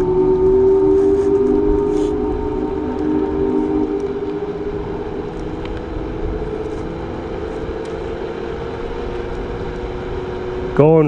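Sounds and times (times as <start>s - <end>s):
electric scooter motor whine: 0.0s - 11.0s
low wind: 0.0s - 11.0s
road rumble: 0.0s - 11.0s.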